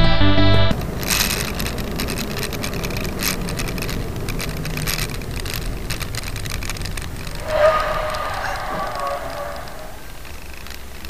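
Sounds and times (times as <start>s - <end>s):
car engine and tyre rumble: 0.7s - 11.0s
scattered clicks and knocks: 0.7s - 11.0s.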